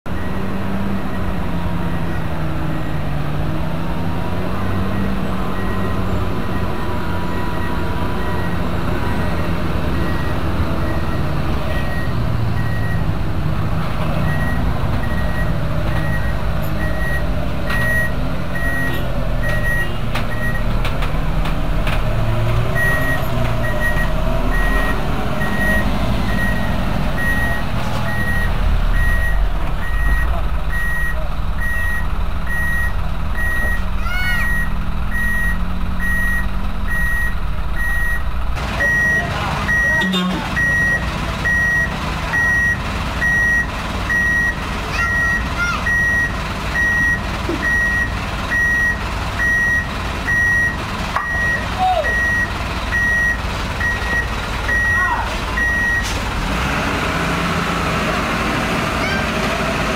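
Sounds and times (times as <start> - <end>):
truck diesel engines: 0.0 - 59.9
reversing alarm beeping: 0.1 - 3.4, 4.5 - 13.4, 14.2 - 20.8, 21.6 - 56.2.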